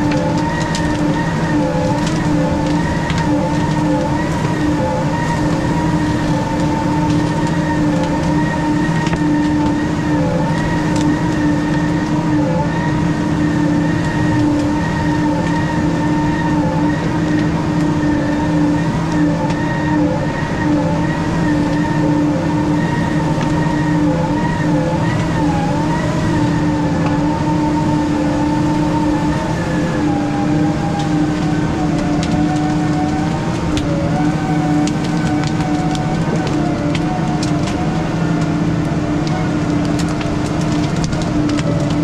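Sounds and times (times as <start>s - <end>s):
diesel engine drone: 0.0s - 42.0s
wavering whine: 0.0s - 42.0s.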